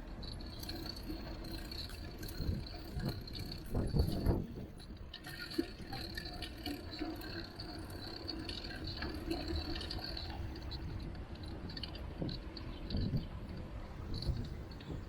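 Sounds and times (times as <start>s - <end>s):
wind and road noise rumble: 0.0s - 7.6s, 8.3s - 15.0s
bicycle rattles and clicks: 0.0s - 15.0s.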